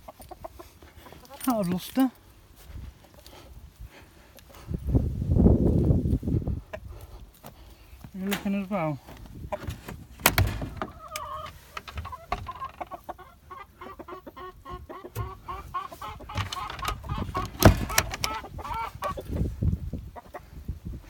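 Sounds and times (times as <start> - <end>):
chickens clucking: 0.0 - 3.8, 6.3 - 20.7.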